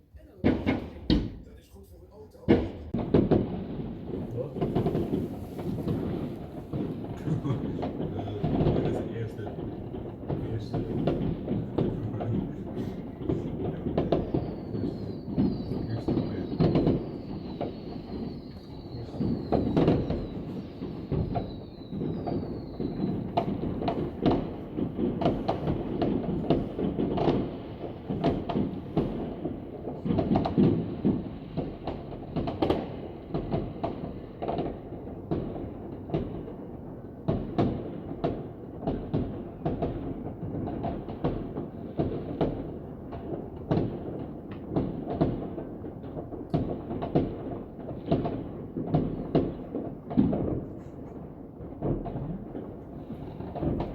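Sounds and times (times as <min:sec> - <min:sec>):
fireworks bangs and cracks: 0:00.0 - 0:53.9
whistling firework: 0:02.6 - 0:53.9.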